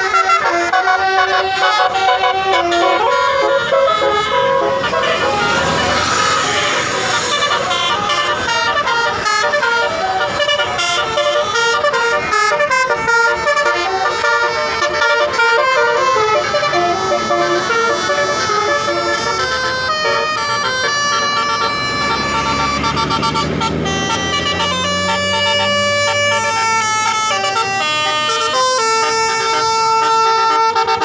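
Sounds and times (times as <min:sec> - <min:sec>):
multi-tone air horn tune: 0:00.0 - 0:31.0.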